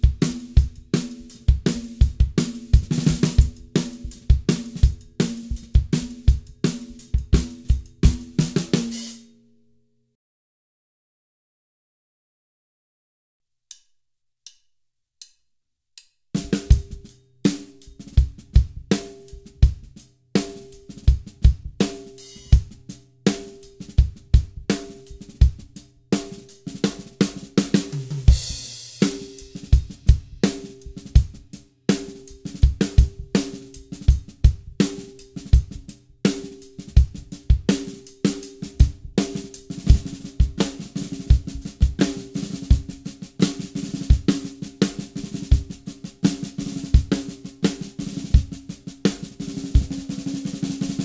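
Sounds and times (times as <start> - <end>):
drum kit playing groove: 0.0 - 9.3, 16.4 - 51.0.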